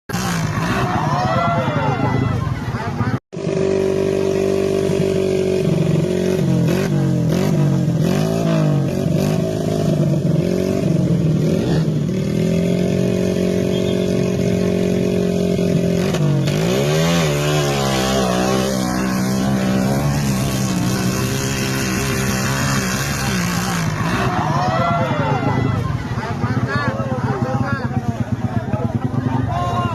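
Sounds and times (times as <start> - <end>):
motorcycle engine revving: 0.1 - 29.9.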